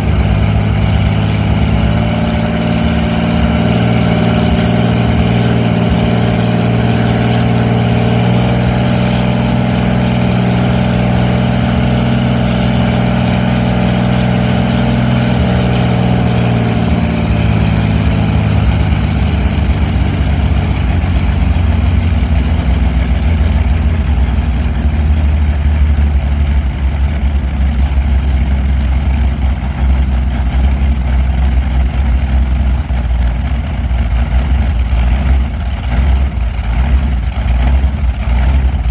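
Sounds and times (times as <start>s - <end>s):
aero engine running: 0.0s - 38.9s.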